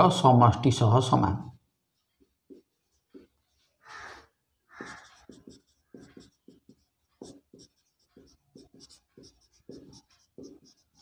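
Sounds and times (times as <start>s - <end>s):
marker pen writing on whiteboard: 0.0s - 11.0s.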